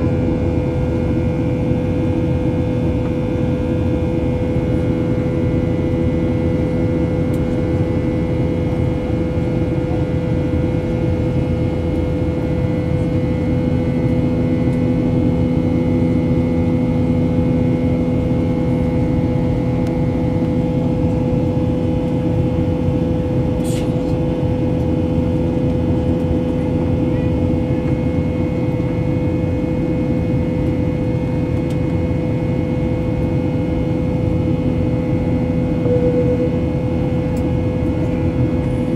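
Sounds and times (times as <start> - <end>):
jet engines rushing in cabin: 0.0 - 38.9.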